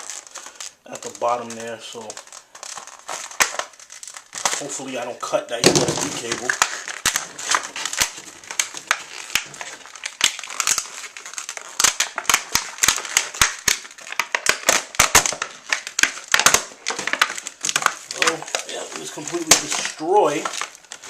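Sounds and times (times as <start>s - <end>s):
plastic packaging crackling: 0.0s - 21.0s.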